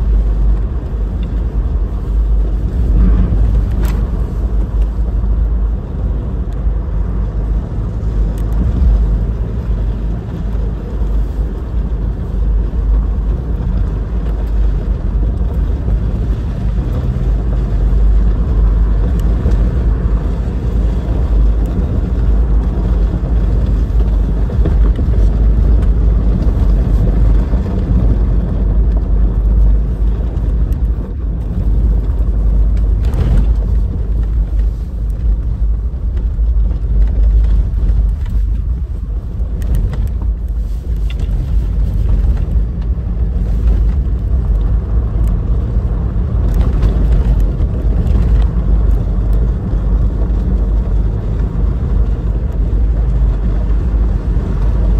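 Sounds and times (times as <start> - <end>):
car engine running: 0.0 - 54.9
tyres rumbling on gravel: 0.0 - 54.9.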